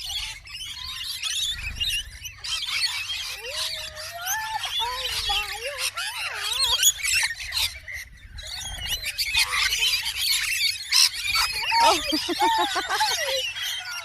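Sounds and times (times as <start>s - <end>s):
flock of small birds chirping: 0.0s - 14.0s.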